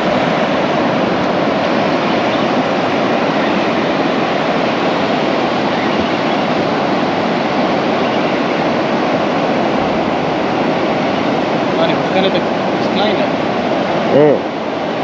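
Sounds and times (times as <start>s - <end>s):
surf breaking on a beach: 0.0s - 15.0s
wind rushing: 0.0s - 15.0s.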